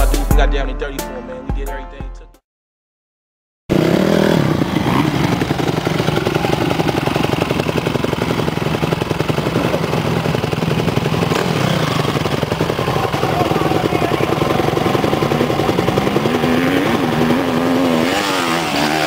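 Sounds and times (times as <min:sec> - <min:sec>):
motocross bike engine running: 0:03.7 - 0:19.0.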